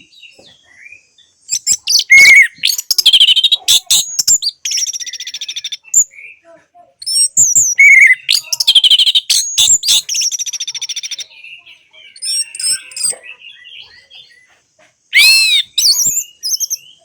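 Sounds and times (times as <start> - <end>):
thrush singing whistles and trills: 0.9 - 6.4, 7.0 - 17.0.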